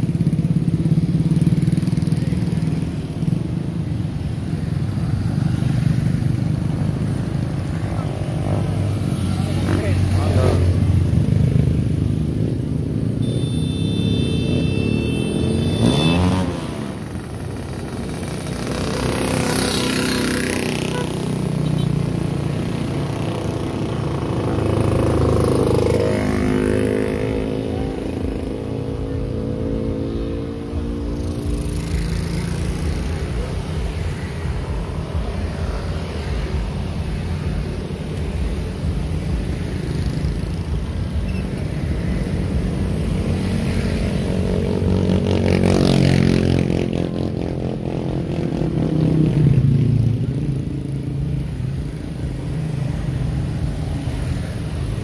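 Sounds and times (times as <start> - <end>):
motorcycles and cars driving past: 0.0 - 55.0.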